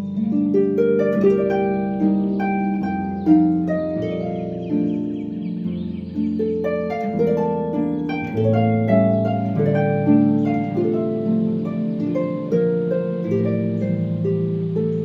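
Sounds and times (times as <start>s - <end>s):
harp melody: 0.0s - 15.0s
low sustained bass notes: 0.0s - 15.0s.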